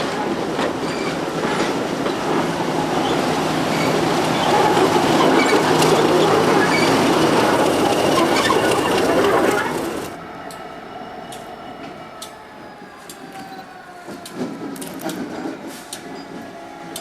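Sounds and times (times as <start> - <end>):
train wheels clicking over rails: 0.0 - 17.0.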